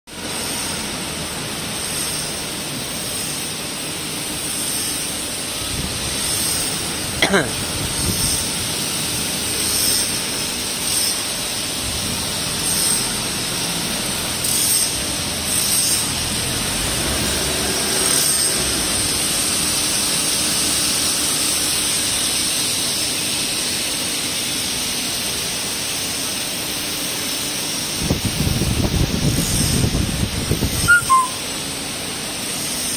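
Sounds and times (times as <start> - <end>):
machinery hum and hiss: 0.1 - 32.9.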